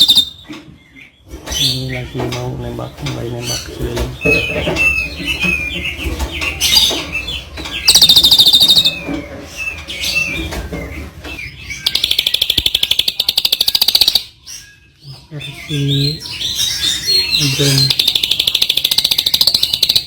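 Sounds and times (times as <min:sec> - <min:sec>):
songbird chirping and trilling: 0:00.0 - 0:20.0.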